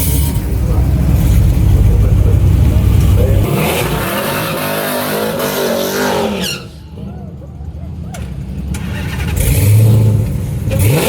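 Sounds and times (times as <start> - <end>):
car engine revving: 0.0 - 7.2, 8.0 - 11.0.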